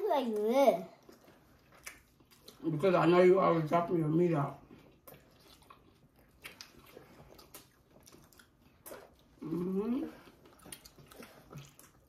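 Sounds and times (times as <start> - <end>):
people chewing: 0.3 - 3.2, 4.5 - 12.0.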